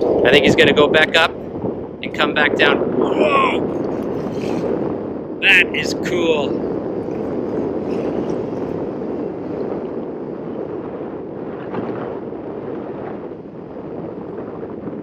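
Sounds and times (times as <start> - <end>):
ocean waves washing: 0.0 - 15.0
wind buffeting the microphone: 0.0 - 15.0.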